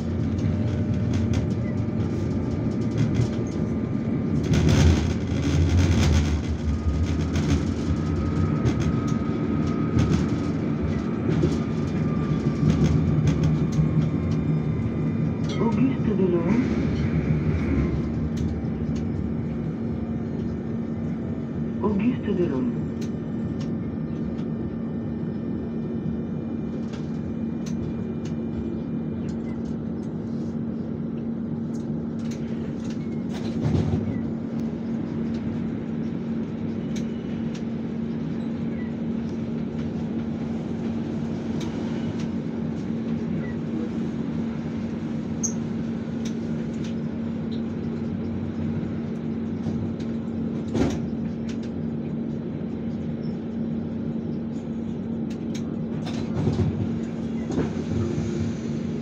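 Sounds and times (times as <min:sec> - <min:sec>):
tram rumble and hum: 0:00.0 - 0:59.0.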